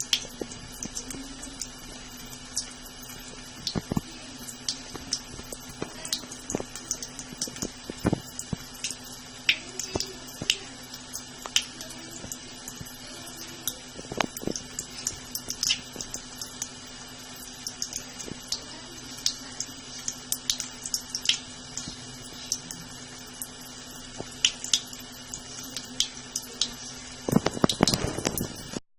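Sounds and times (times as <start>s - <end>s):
small splashes and drips: 0.0s - 28.8s
tap water running into sink: 0.0s - 28.8s.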